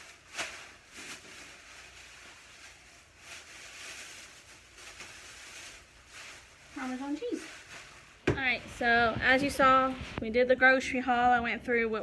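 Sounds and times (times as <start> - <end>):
plastic packaging rustling: 0.0 - 10.2.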